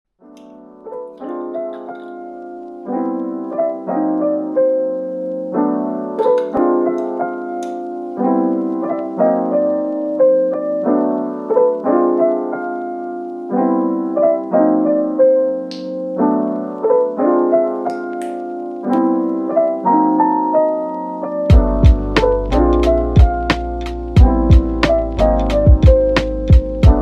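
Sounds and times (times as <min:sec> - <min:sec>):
gentle solo piano: 0:00.3 - 0:27.0.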